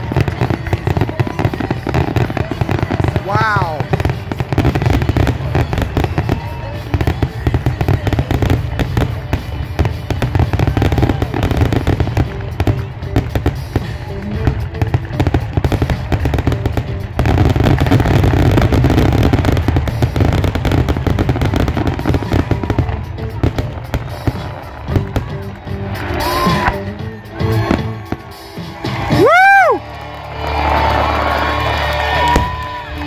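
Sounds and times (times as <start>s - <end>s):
fireworks bursting and crackling: 0.0s - 33.0s.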